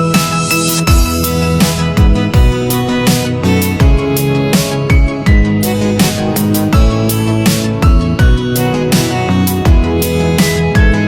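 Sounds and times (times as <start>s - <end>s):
electronic music with a beat: 0.0s - 11.0s.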